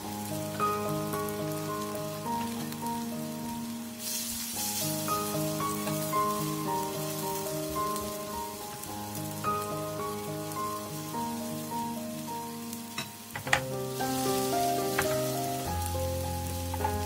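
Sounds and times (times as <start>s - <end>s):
batter sizzling in oil: 0.0s - 17.0s
instrumental background music: 0.0s - 17.0s.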